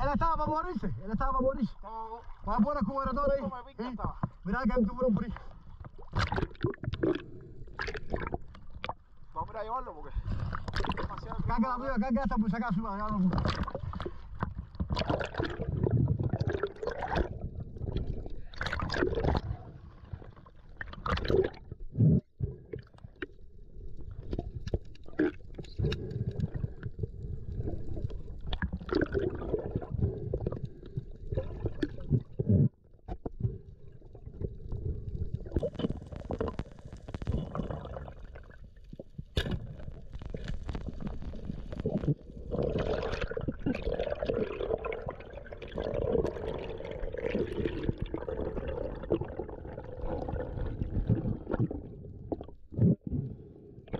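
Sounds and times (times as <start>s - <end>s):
water gurgling and sloshing: 0.0s - 53.9s.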